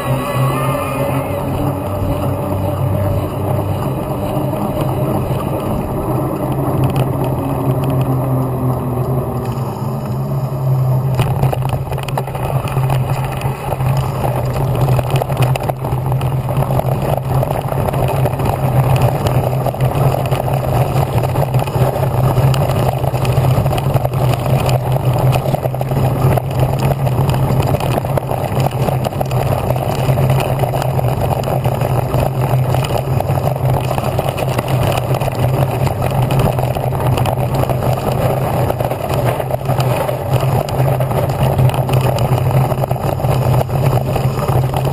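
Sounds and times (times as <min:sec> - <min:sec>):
electric bike motor hum: 0:00.0 - 0:44.9
tyres on rough dirt trail: 0:00.0 - 0:44.9.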